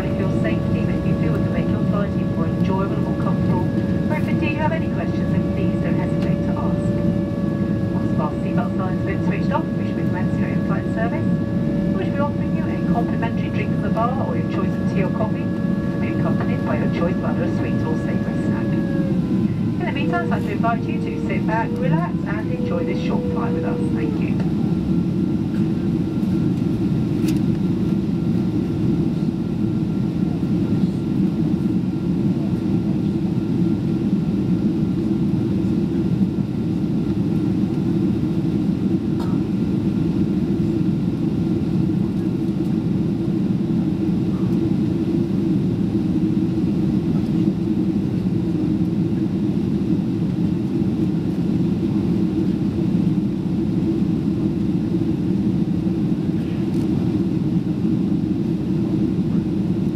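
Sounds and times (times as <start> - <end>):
airflow over fuselage: 0.0 - 59.9
airplane cabin engine drone: 0.0 - 59.9.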